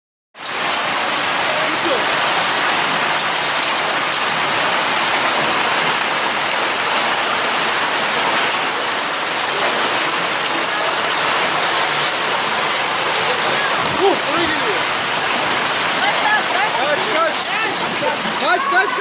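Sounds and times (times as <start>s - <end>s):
faint ticks of raindrops: 0.4s - 19.0s
heavy rain pouring: 0.4s - 19.0s.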